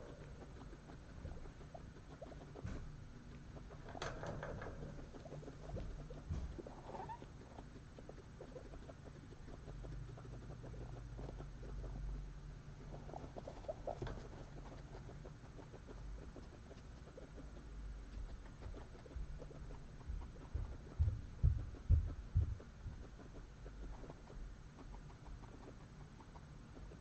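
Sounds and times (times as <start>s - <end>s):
guinea pigs crunching food: 0.0s - 27.0s.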